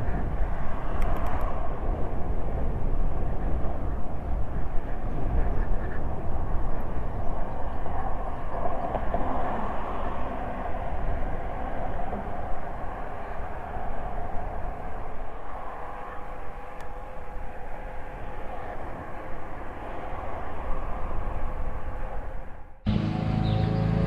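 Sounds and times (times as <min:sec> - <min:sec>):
wind and road noise: 0:00.0 - 0:22.9
wind buffeting microphone: 0:00.0 - 0:22.9.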